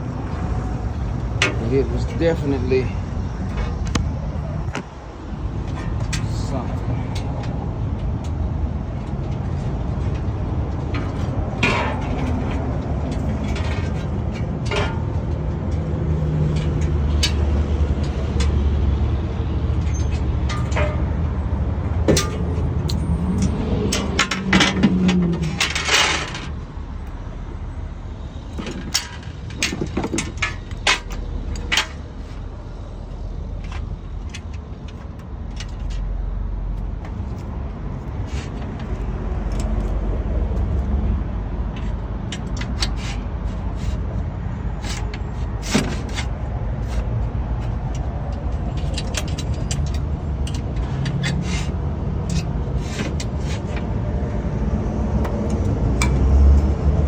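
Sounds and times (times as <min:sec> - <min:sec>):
low vehicle rumble: 0:00.0 - 0:57.0.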